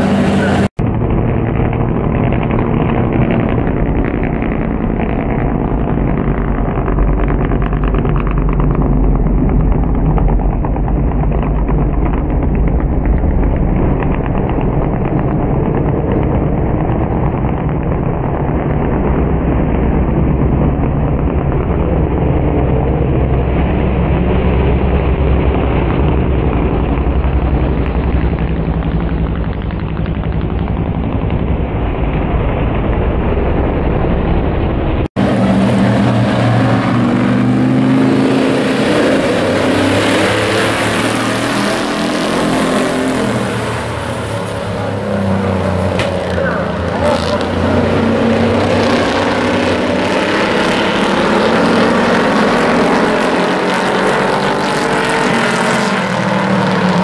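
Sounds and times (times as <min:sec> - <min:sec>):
race truck engines: 0:00.0 - 0:57.0.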